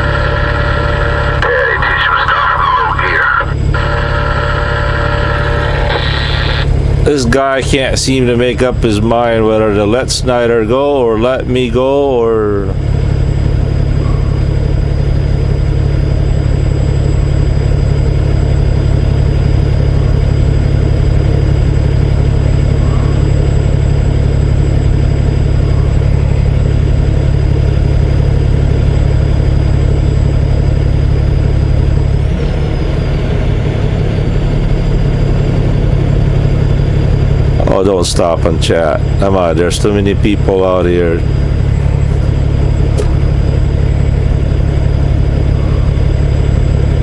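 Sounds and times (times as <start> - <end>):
diesel truck engine idling: 0.0 - 47.0.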